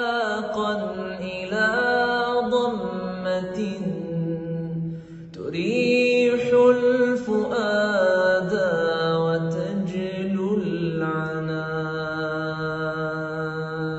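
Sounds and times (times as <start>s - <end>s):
man singing: 0.0s - 13.9s.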